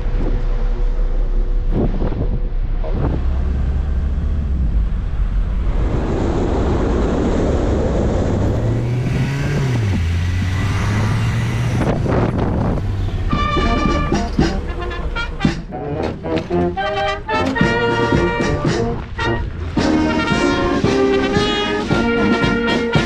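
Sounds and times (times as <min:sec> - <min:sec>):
noisy rush: 0:00.0 - 0:23.0
vehicle engine drone: 0:00.0 - 0:23.0.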